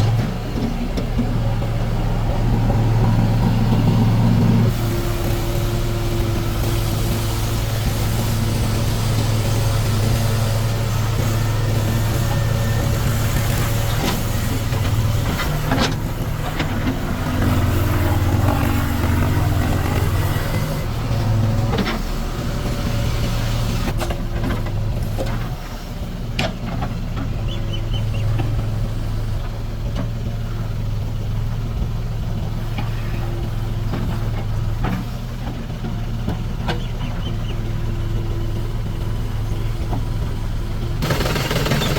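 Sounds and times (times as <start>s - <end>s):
diesel engines running: 0.0s - 41.9s.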